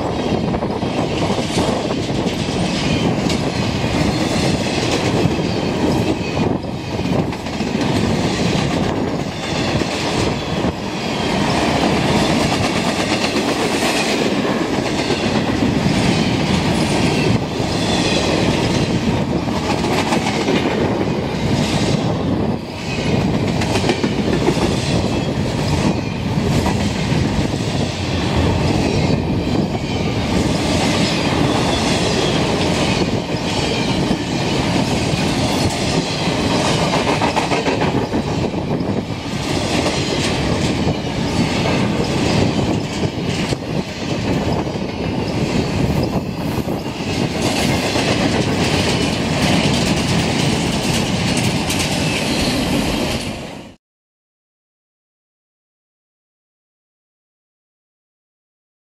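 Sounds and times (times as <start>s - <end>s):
freight train wheels rumbling: 0.0s - 53.8s.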